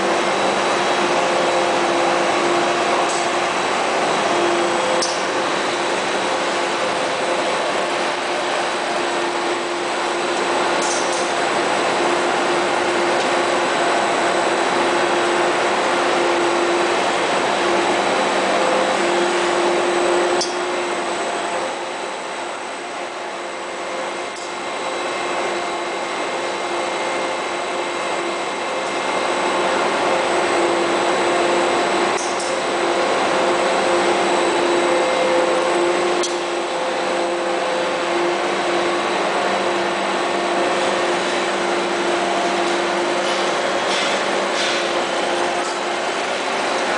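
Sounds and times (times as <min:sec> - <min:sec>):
workshop machinery humming and whining: 0:00.0 - 0:46.9.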